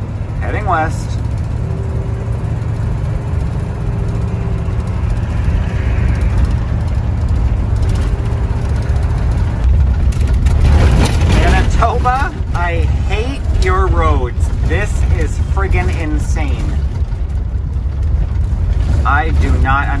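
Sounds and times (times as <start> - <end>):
faint whine: 0.0 - 18.0
road and engine rumble in cabin: 0.0 - 20.0.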